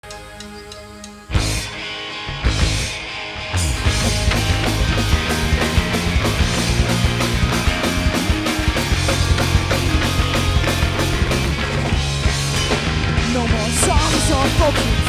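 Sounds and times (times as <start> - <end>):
drum kit: 0.0 - 1.9, 2.5 - 3.0, 3.6 - 15.0
distorted electric guitars: 0.0 - 15.0.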